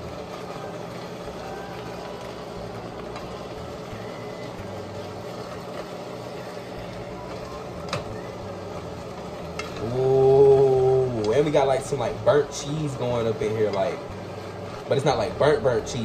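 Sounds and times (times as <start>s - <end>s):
food sizzling in a skillet: 0.0s - 16.0s
spatula stirring: 0.0s - 16.0s.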